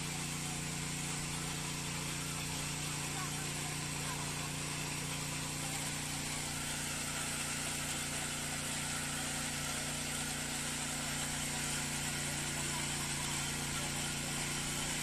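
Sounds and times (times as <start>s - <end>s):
tiller engine running: 0.0s - 15.0s.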